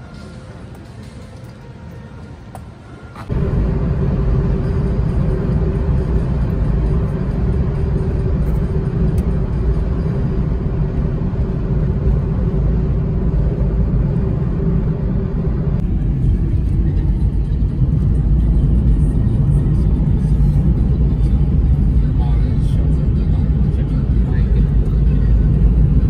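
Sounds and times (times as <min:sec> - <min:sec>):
car driving heard from inside: 0:03.2 - 0:26.0.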